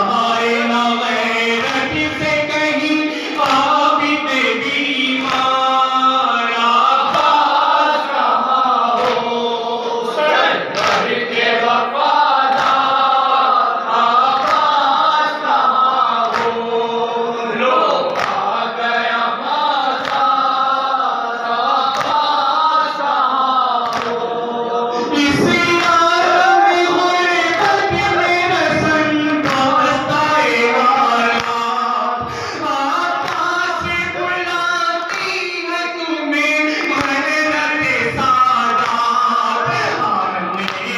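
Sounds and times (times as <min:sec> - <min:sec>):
men chanting through loudspeakers: 0:00.0 - 0:40.9.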